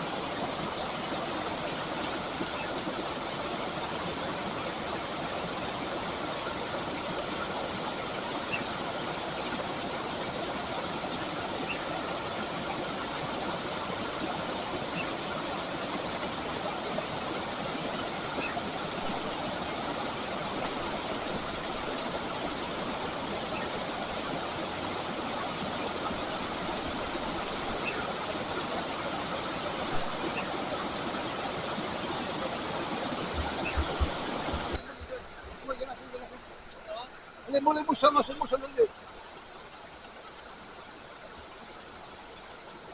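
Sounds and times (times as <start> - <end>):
steady rushing noise: 0.0 - 42.9.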